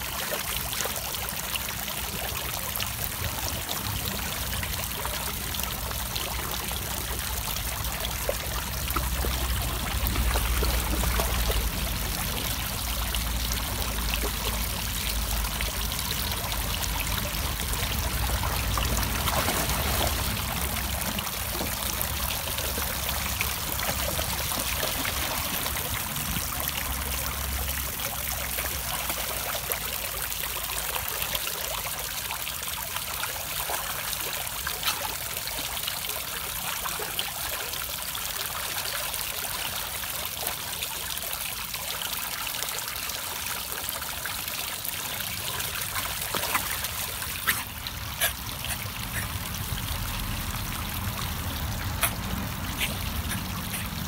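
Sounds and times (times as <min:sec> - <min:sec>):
fountain water trickling into basin: 0:00.0 - 0:54.0.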